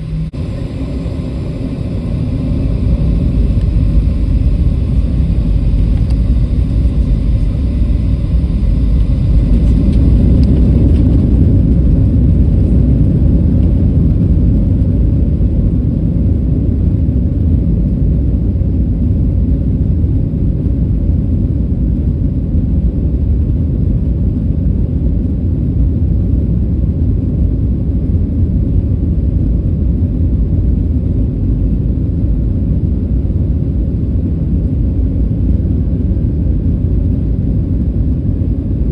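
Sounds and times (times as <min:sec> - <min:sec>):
jet airliner cabin rumble: 0:00.0 - 0:38.9.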